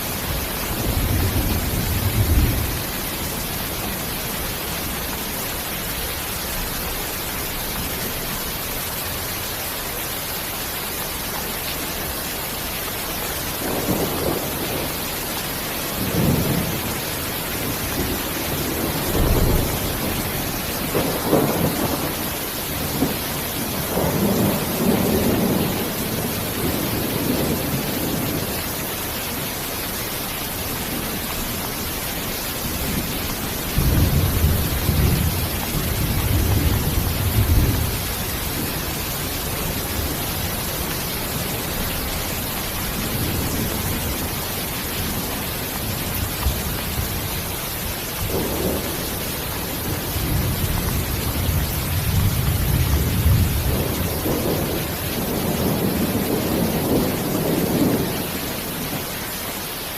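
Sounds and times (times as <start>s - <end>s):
rolling thunder: 0.0s - 5.3s, 13.4s - 28.7s, 30.7s - 59.0s
steady rain hiss: 0.0s - 59.9s.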